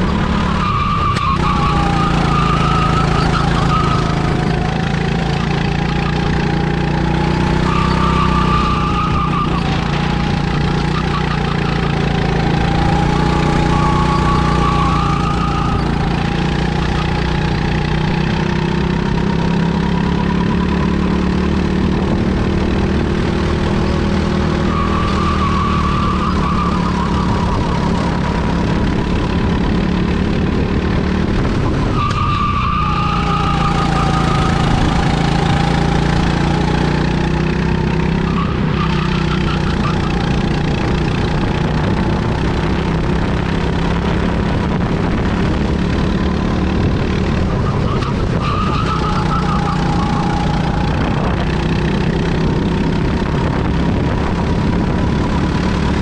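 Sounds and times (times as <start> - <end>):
kart engine running: 0.0 - 56.0.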